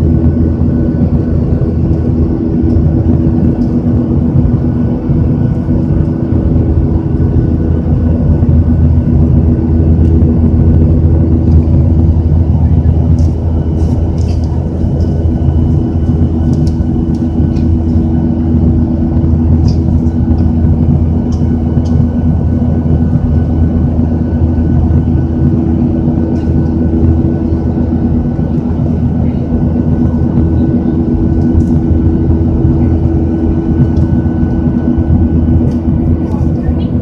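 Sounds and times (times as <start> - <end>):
jet engine cabin drone: 0.0 - 37.0.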